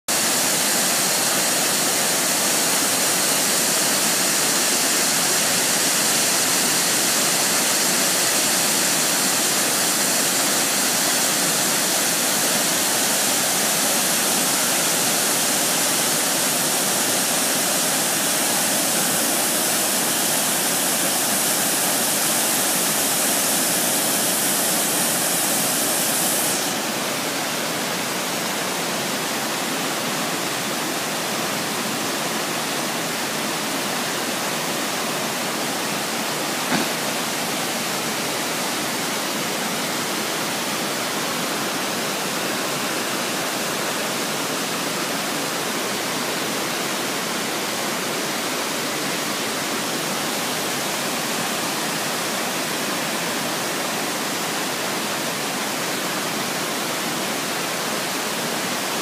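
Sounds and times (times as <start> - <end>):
waterfall rushing: 0.1 - 59.0.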